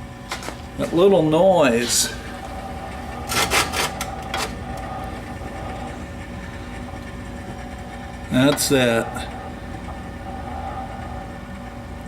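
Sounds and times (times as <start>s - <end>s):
feed auger humming: 0.8s - 12.0s.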